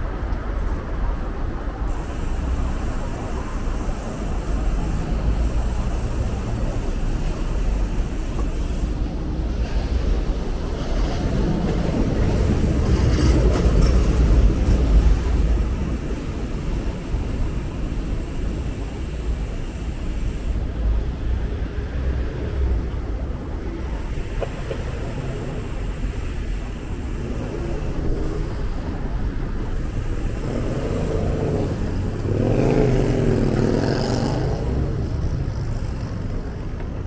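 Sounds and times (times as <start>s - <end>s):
cars passing: 0.0s - 37.0s
low traffic rumble: 0.0s - 37.0s.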